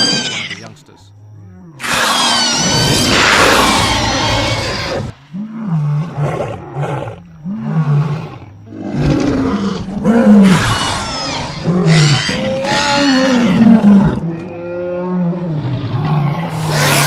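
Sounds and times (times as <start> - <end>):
dinosaur roar: 1.3 - 17.0.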